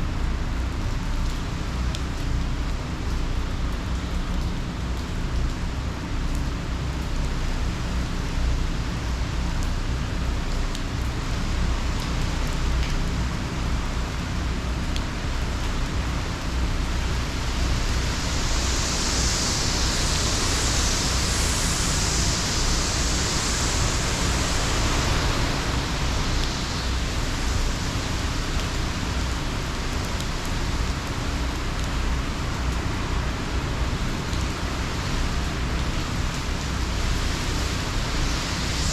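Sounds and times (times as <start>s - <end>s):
heavy rain and wind: 0.0s - 38.9s.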